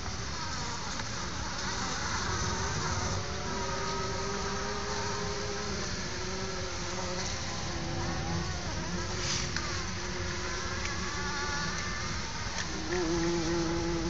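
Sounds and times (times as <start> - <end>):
bumblebees buzzing: 0.0 - 14.0.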